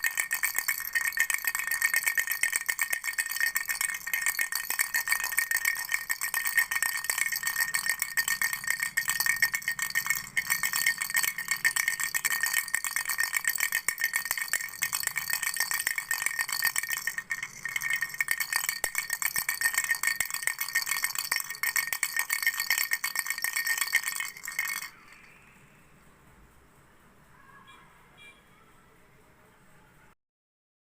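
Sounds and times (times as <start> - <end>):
baby rattle shaking: 0.0 - 25.6.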